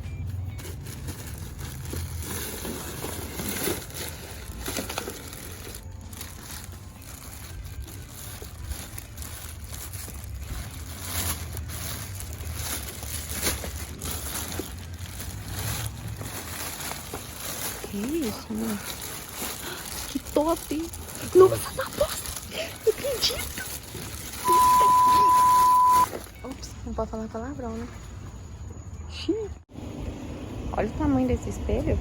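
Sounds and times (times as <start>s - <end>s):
plastic bags rustling: 0.1s - 26.6s.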